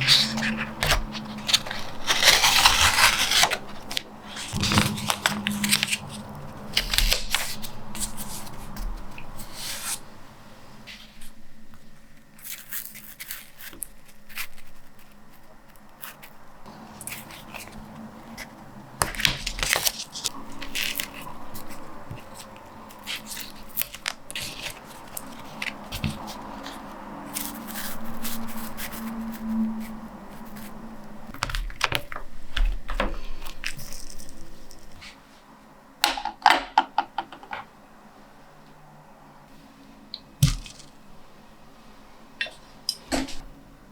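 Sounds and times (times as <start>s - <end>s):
paper rustling: 0.0s - 35.2s, 40.4s - 41.1s.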